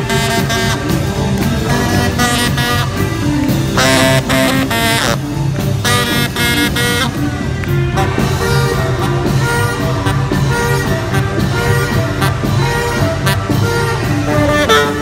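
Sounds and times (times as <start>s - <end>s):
live band playing: 0.0s - 15.0s
saxophone: 0.0s - 15.0s.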